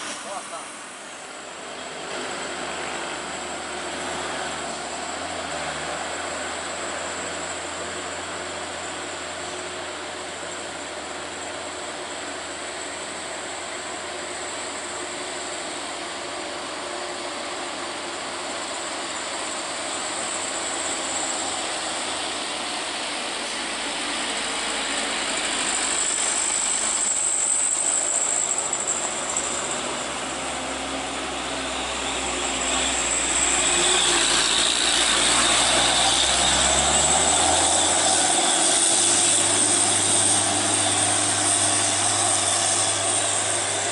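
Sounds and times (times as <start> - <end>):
diesel truck engines climbing: 0.0 - 43.9
road noise: 0.0 - 43.9.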